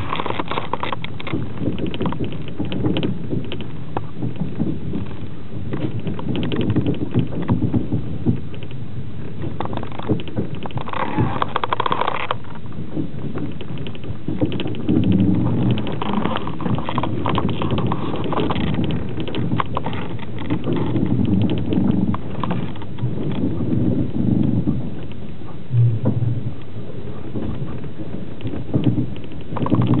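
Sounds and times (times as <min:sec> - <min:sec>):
low rumble of moving carriage: 0:00.0 - 0:30.0.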